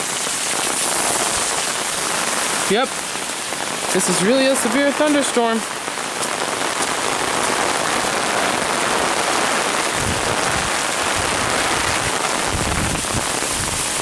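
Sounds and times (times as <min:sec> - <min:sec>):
heavy rain on an umbrella: 0:00.0 - 0:14.0.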